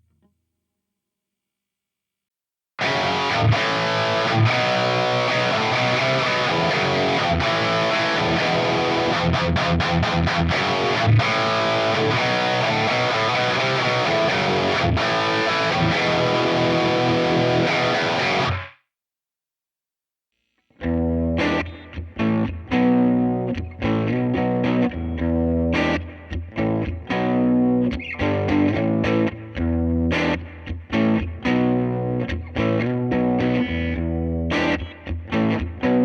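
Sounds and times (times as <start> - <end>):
distorted electric guitar riff: 2.8 - 18.8, 20.8 - 36.0.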